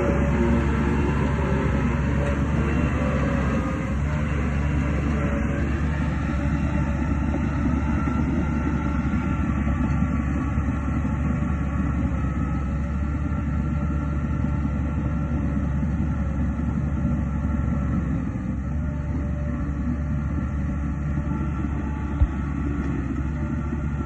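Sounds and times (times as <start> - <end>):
diesel engine drone: 0.0 - 24.0
faint steady whine: 0.0 - 24.0.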